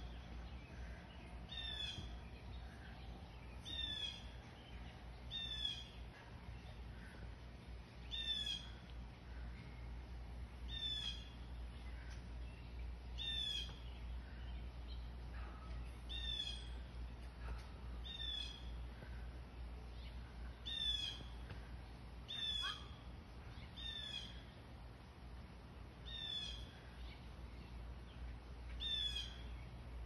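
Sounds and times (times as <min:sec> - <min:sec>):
small bird calling: 0:00.0 - 0:07.4, 0:08.1 - 0:09.8, 0:10.6 - 0:19.3, 0:20.0 - 0:21.6, 0:22.3 - 0:24.7, 0:26.0 - 0:27.4, 0:28.6 - 0:29.8
low steady rumble: 0:00.0 - 0:30.0.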